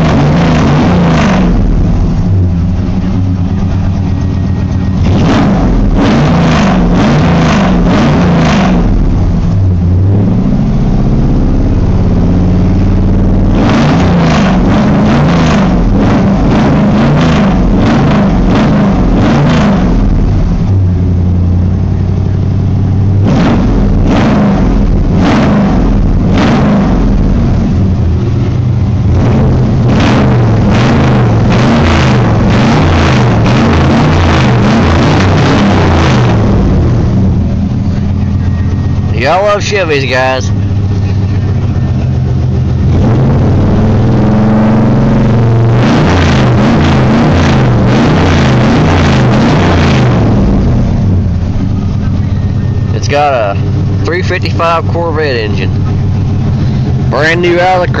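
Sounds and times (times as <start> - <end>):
truck exhaust idling and revving: 0.0 - 58.0.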